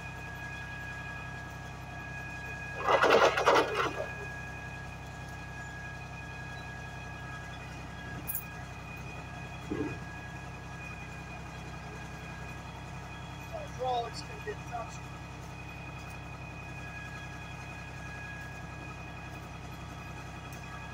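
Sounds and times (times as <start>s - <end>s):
sewer jetter humming: 0.0s - 20.9s.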